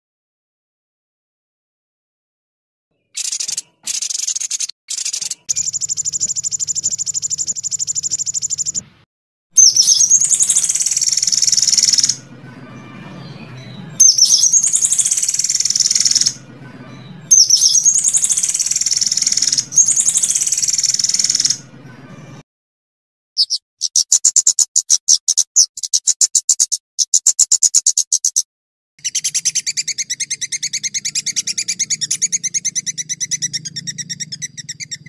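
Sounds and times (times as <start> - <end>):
songbird trilling and singing: 3.0 - 8.8, 9.6 - 21.7, 23.4 - 28.4, 29.0 - 35.0.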